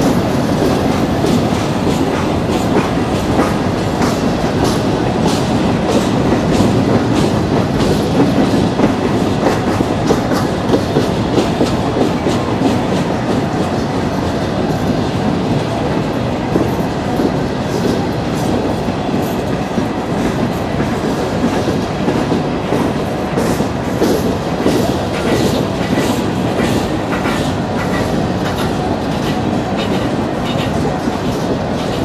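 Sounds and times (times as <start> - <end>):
train wheels rumbling on rail: 0.0 - 32.0
wheels clacking over rail joints: 0.0 - 32.0.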